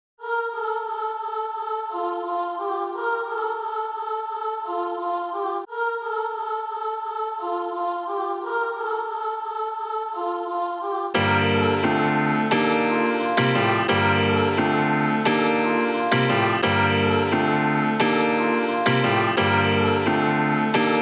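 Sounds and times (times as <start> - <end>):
choir-like held chords: 0.2 - 21.0.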